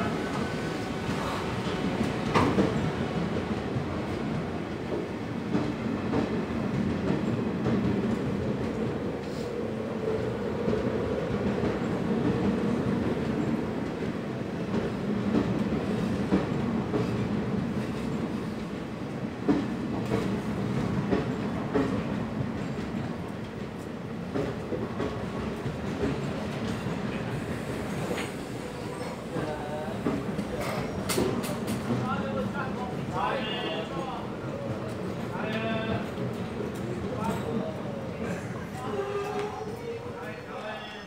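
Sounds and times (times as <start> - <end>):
train wheels rumbling on track: 0.0 - 40.8.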